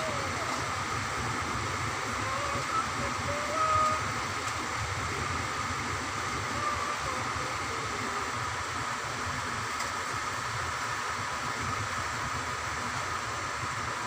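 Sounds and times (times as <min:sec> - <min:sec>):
steady rushing background noise: 0:00.0 - 0:14.0.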